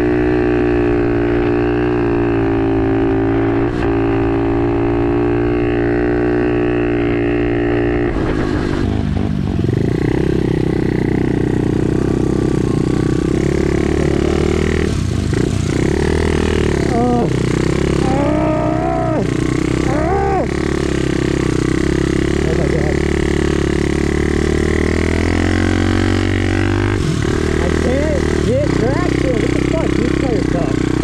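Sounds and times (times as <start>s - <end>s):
small motorbike engine revving: 0.0s - 31.0s.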